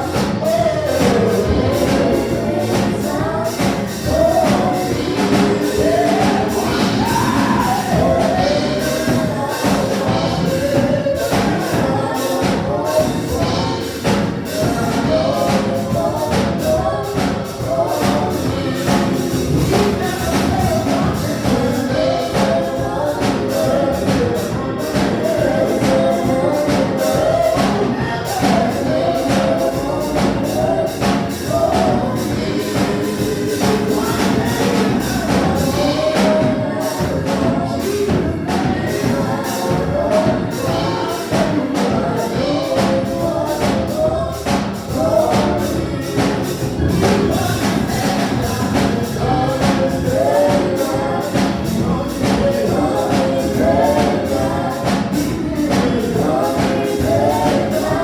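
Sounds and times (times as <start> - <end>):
gospel group singing: 0.0 - 58.0.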